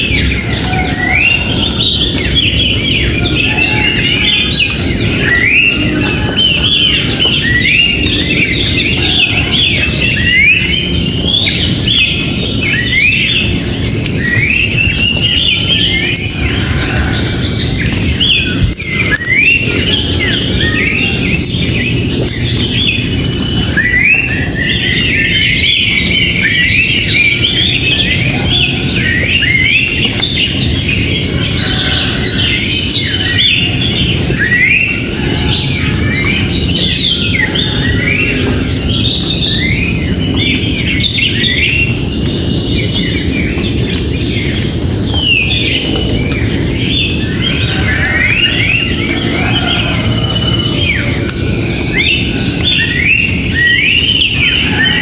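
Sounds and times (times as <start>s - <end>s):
small birds chirping: 0.0s - 55.0s
steady low rumble: 0.0s - 55.0s.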